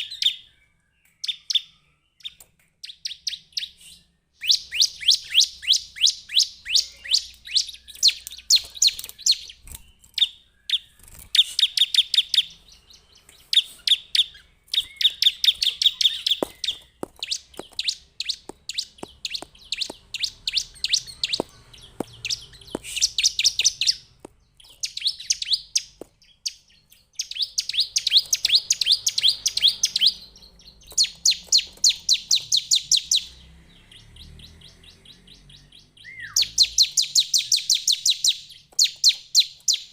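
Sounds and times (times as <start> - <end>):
bird high chipping song: 0.0 - 39.9.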